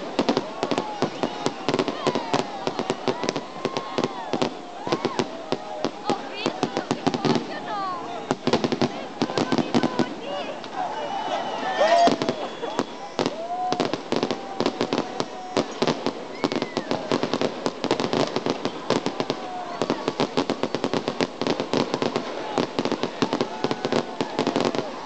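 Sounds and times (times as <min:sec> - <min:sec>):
crowd voices: 0:00.0 - 0:25.0
fireworks bursting: 0:00.0 - 0:25.0.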